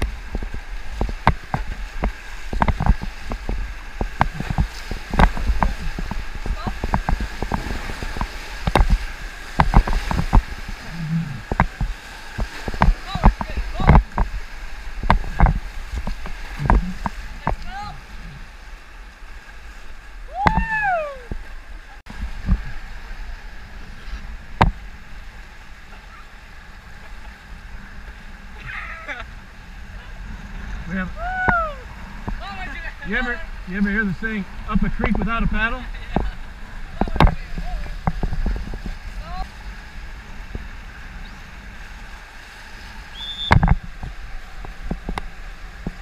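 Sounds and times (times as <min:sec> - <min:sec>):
whitewater rapids rushing: 0:00.0 - 0:18.9, 0:19.5 - 0:46.0
water splashes and knocks: 0:00.0 - 0:23.4, 0:24.4 - 0:26.0, 0:30.9 - 0:41.0, 0:41.8 - 0:46.0
wind rumbling: 0:00.0 - 0:46.0.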